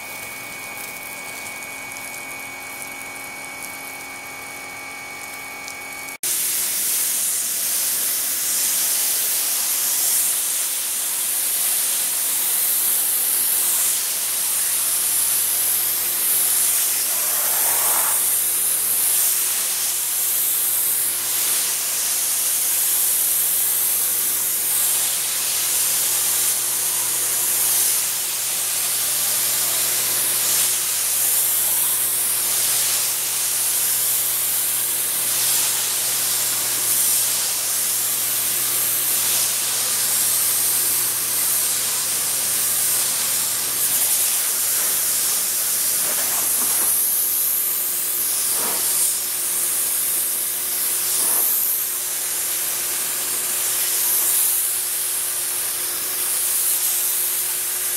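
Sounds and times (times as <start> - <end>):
electric pump whine: 0.0 - 51.0
pressure washer spray hissing: 6.2 - 57.9.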